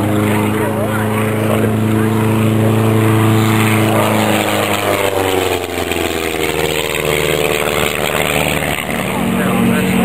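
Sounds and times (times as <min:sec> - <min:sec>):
light aircraft flying past: 0:00.0 - 0:10.0.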